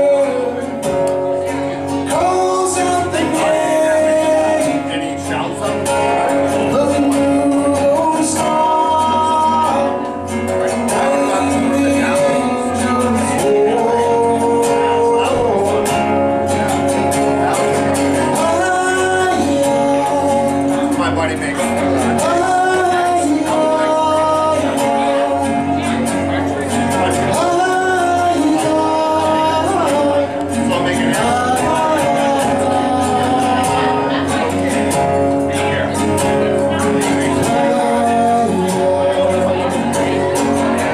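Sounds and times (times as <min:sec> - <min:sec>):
acoustic guitar accompaniment: 0:00.0 - 0:40.9
man singing: 0:00.0 - 0:40.9
wordless sliding lead melody: 0:00.0 - 0:40.9.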